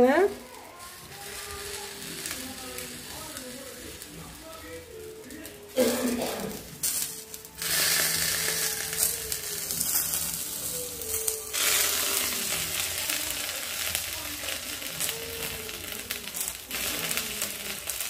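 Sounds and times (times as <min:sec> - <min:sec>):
flatbread sizzling on a griddle: 0:00.0 - 0:18.0.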